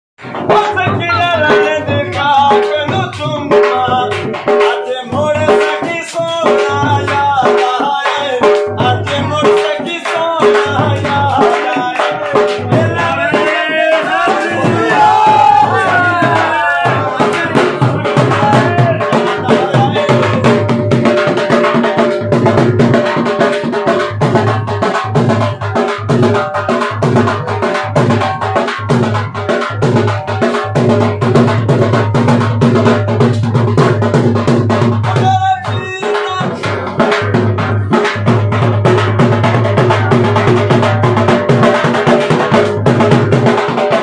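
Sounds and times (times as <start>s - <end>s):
dhol drum beating: 0.2s - 44.0s.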